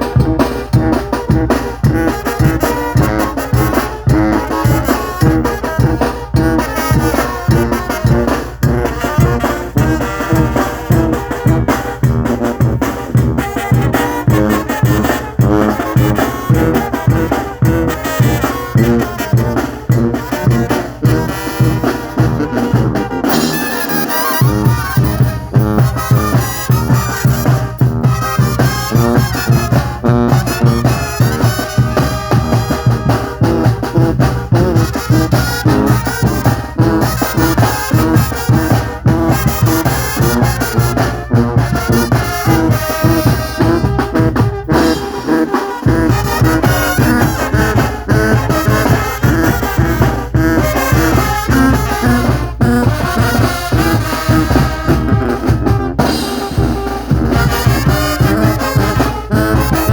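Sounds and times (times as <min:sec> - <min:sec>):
drums with steady beat: 0:00.0 - 0:59.9
trombones and trumpets: 0:00.0 - 0:59.9.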